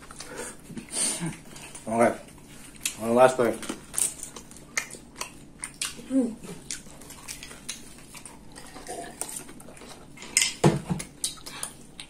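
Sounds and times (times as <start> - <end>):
chewing pizza crust: 0.0 - 12.0.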